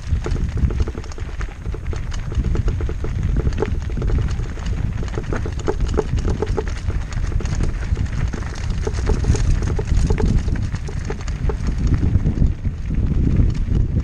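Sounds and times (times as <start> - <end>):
tyres crunching on gravel: 0.0 - 12.6
bike rattling: 0.0 - 14.0
low rumble: 0.0 - 14.0.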